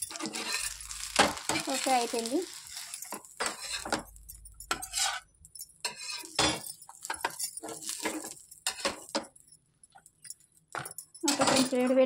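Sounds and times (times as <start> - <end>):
utensils clinking against pan: 0.0 - 12.0.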